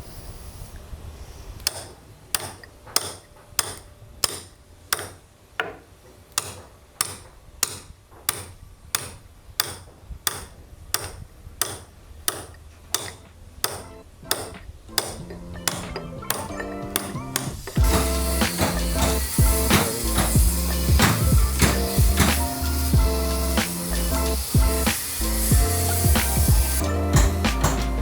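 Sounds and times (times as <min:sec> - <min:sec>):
mallet striking caulking iron: 0:01.6 - 0:28.0.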